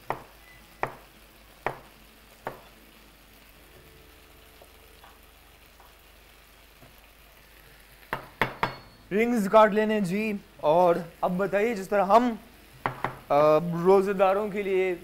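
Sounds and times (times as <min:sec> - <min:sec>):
pan sizzling faintly: 0:00.0 - 0:15.0.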